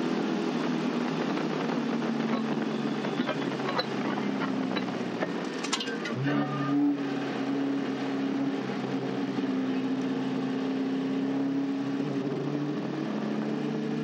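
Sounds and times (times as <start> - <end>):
race car engine running: 0.0 - 14.0.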